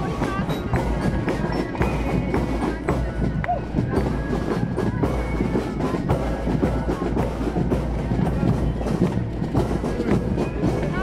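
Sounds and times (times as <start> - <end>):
field drums and bass drum: 0.0 - 11.0
marching band playing: 0.0 - 11.0.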